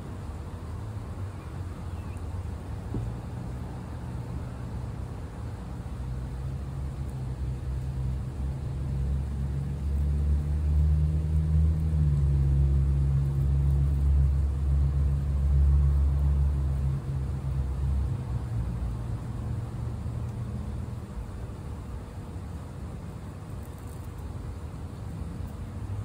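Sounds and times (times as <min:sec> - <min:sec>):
motor vehicle engine rumble: 0:00.0 - 0:26.0.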